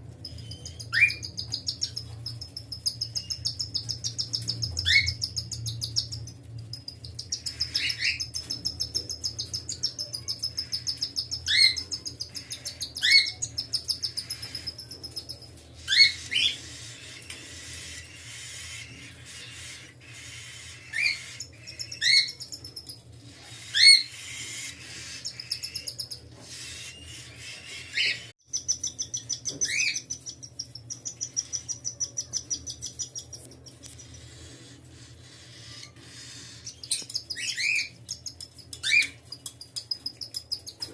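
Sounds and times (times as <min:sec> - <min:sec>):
cockatiels peeping: 0:00.1 - 0:40.9.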